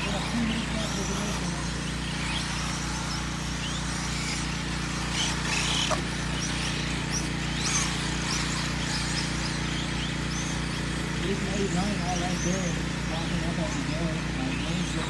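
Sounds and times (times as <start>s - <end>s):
rc truck motor whines: 0.0s - 15.0s
steady low hum: 0.0s - 15.0s.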